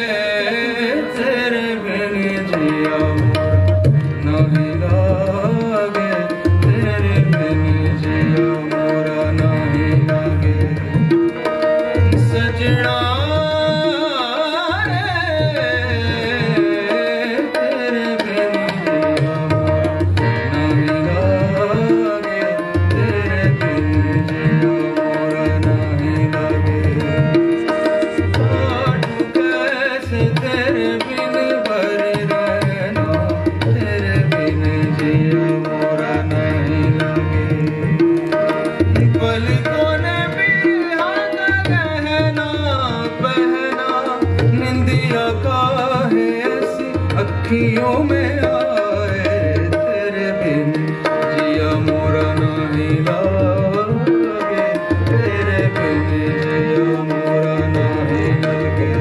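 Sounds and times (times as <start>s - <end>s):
harmonium chords: 0.0s - 59.0s
man singing melodic runs: 0.0s - 59.0s
tabla steady rhythm: 0.0s - 59.0s.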